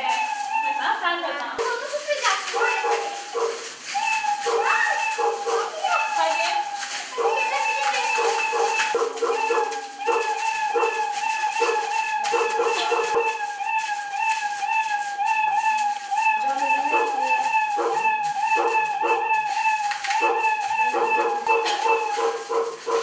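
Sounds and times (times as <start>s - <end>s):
wavering high electronic tone: 0.0s - 1.7s, 2.4s - 23.0s.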